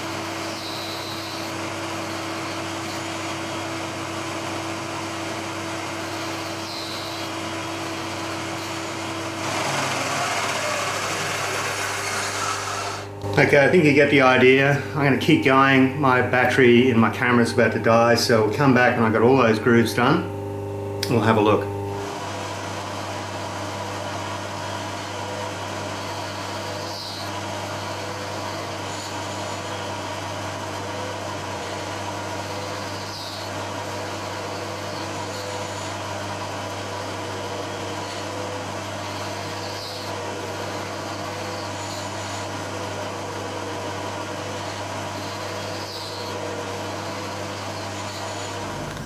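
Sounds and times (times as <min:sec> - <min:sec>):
milling machine humming: 0:00.0 - 0:49.0.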